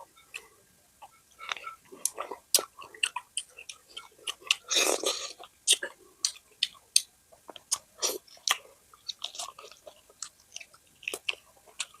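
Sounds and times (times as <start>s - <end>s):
person chewing close up: 1.4s - 12.0s.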